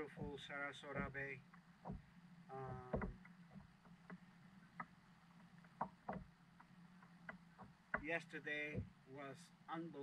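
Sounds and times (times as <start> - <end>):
low steady hum: 0.0 - 10.0
light knocks and clicks: 0.1 - 4.2, 4.8 - 9.0.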